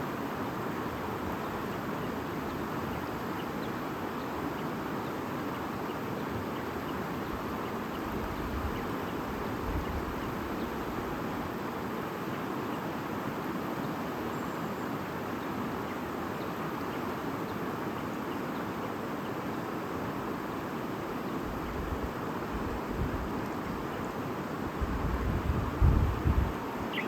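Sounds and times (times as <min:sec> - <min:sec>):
stream rushing and babbling: 0:00.0 - 0:27.0.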